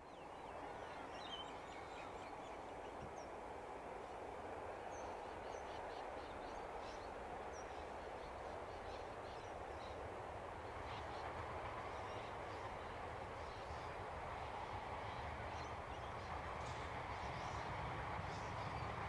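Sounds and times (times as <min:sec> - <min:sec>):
distant diesel train rumbling: 0:00.0 - 0:19.0.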